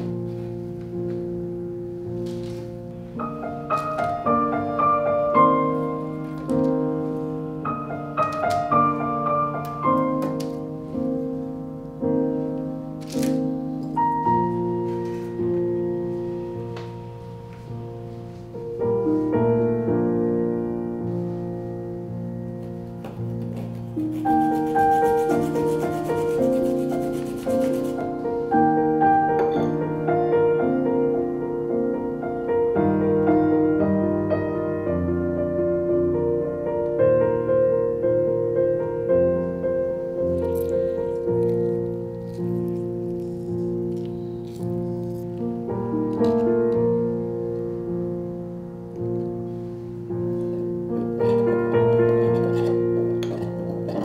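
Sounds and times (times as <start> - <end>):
slow piano music: 0.0 - 54.0.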